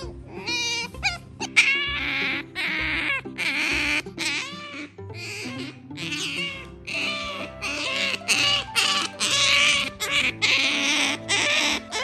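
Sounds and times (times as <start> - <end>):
otter squealing: 0.0 - 12.0.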